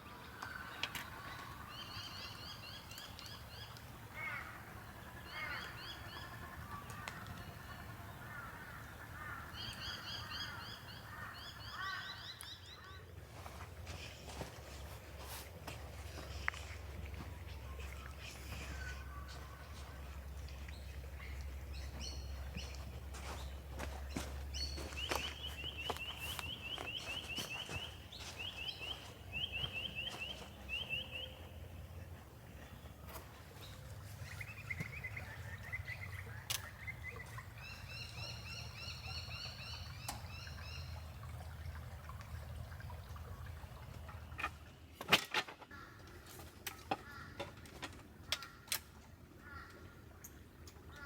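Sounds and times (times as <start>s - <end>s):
birds calling: 0.0s - 44.9s, 45.7s - 51.0s.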